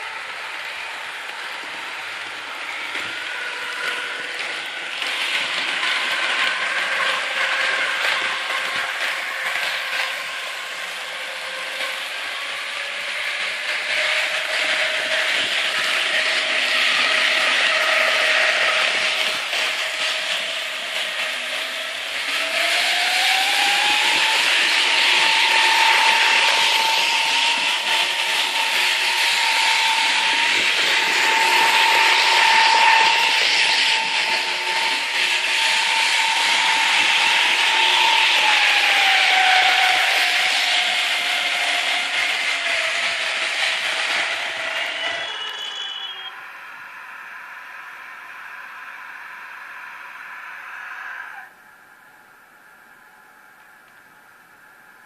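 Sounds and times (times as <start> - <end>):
model train whine: 0.0 - 55.0
steady rushing noise: 0.0 - 55.0.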